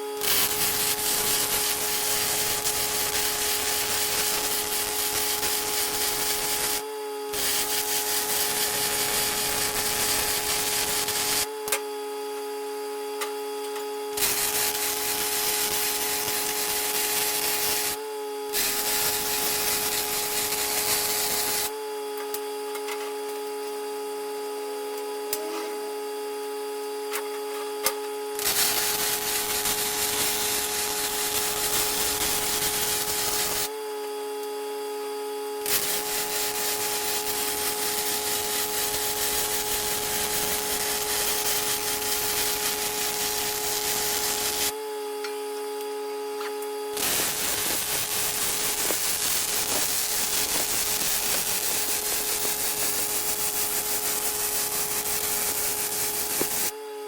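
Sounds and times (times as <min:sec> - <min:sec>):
power tool motor whine: 0:00.0 - 0:22.8, 0:28.3 - 0:34.6, 0:35.5 - 0:45.2, 0:46.6 - 0:57.0.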